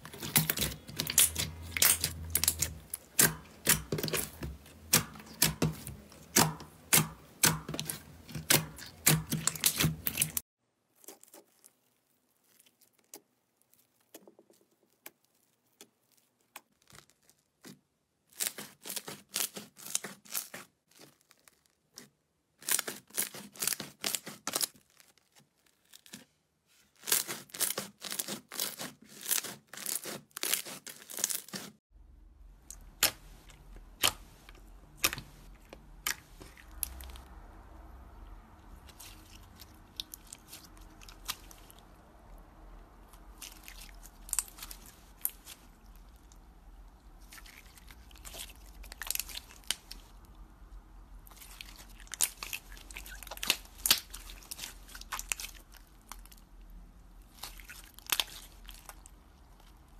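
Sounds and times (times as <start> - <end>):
crunchy slime crackling: 0.0 - 31.8, 32.6 - 59.9.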